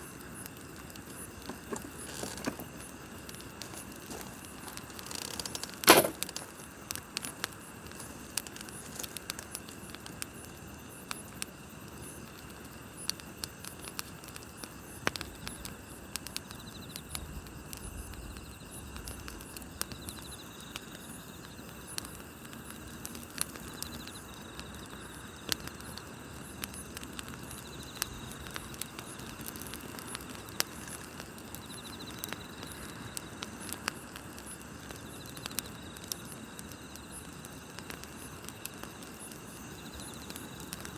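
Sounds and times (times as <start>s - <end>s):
campfire crackling and popping: 0.0s - 40.9s
night insects chirping: 0.0s - 40.9s.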